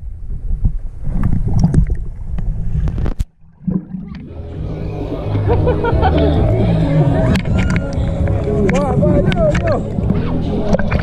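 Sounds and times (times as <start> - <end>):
muffled underwater rumble: 0.0 - 11.0
open-air water noise: 0.0 - 11.0.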